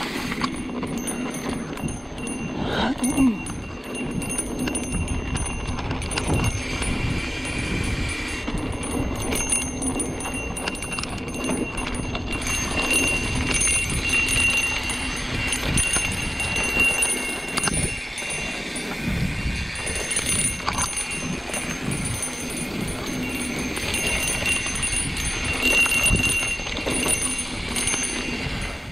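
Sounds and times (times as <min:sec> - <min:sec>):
bike rattling and knocking: 0:00.0 - 0:28.9.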